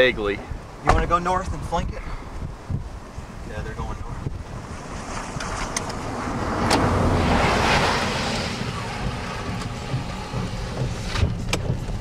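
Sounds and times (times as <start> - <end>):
wind rushing at car window: 0.0 - 12.0
low rumble: 2.2 - 12.0.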